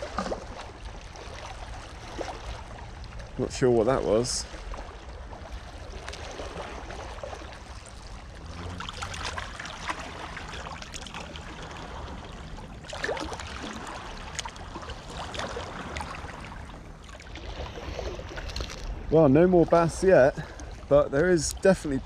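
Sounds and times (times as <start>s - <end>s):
waves lapping against rocks: 0.0s - 22.0s.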